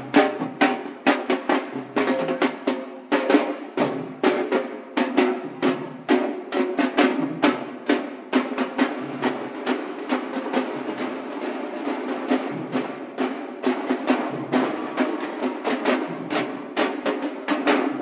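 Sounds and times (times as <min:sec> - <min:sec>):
barrel drums beaten hard: 0:00.0 - 0:18.0.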